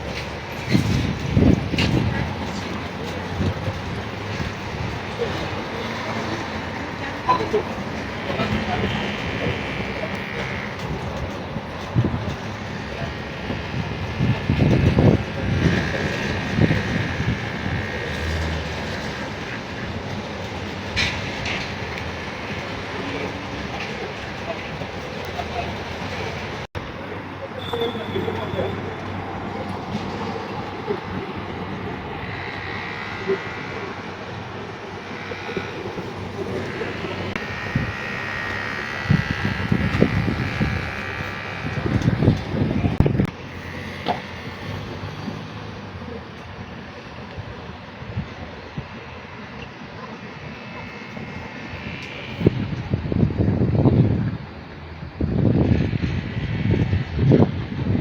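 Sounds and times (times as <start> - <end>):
wind buffeting microphone: 0.0 - 27.6, 28.8 - 58.0
city noise: 0.0 - 58.0.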